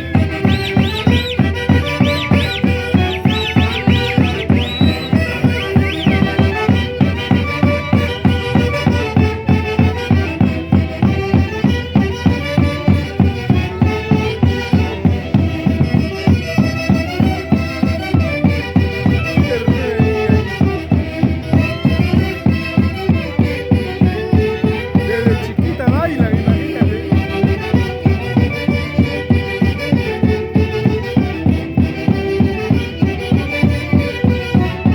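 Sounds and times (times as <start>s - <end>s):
folk orchestra playing dance music: 0.0s - 34.9s.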